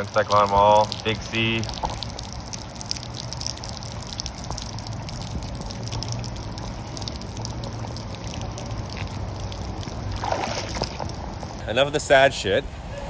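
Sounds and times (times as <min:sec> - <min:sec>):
rain falling: 0:00.0 - 0:11.6
water dripping: 0:00.0 - 0:11.6
water pouring: 0:00.0 - 0:11.6
low steady rumble: 0:00.0 - 0:13.0.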